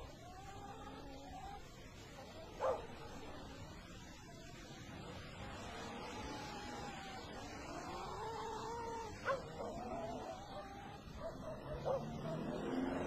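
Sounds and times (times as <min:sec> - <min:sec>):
animal wavering cries: 0:00.0 - 0:04.7, 0:05.4 - 0:13.0.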